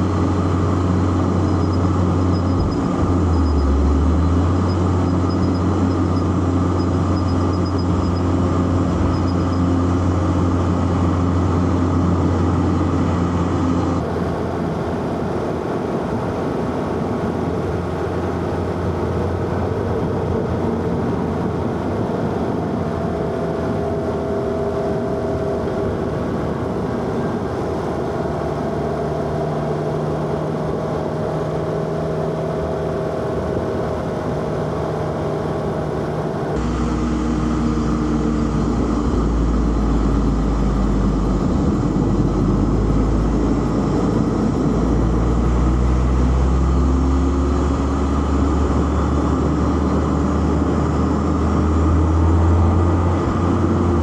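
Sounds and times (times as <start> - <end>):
car engine running: 0.0 - 54.0
faint whine sinking in pitch: 0.0 - 54.0
road and tyre noise: 0.0 - 54.0.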